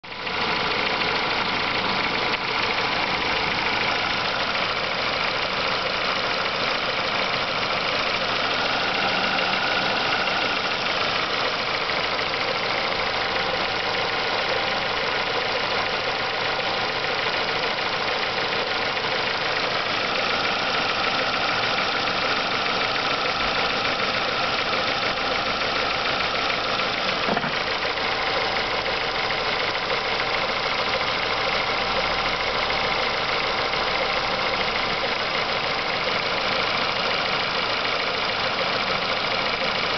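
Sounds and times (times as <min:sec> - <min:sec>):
car engine idling: 0:00.0 - 0:39.9
engine knock: 0:00.1 - 0:39.9.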